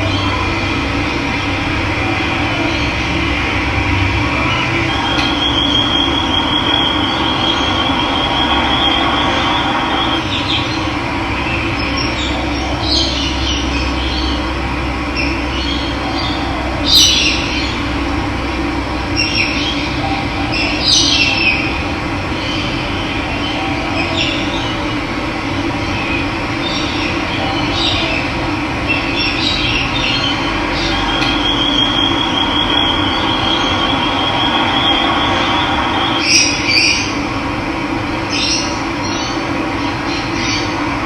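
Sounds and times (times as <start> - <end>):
birds calling: 0.0 - 18.3, 19.0 - 37.3.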